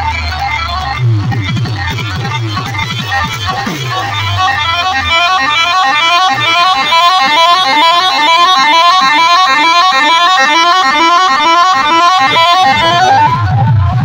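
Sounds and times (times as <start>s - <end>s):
loud music with horn-like lead melody: 0.0s - 14.0s.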